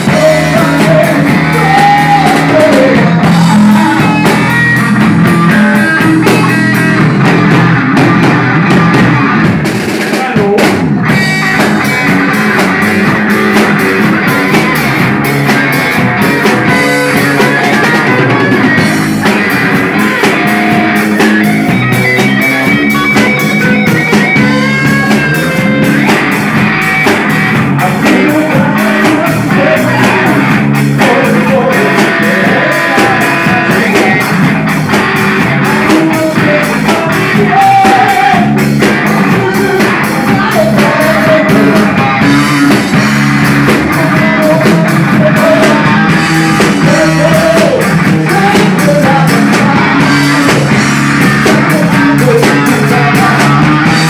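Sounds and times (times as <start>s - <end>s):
bass guitar: 0.0s - 54.0s
drum kit beat: 0.0s - 54.0s
electric guitar: 0.0s - 54.0s.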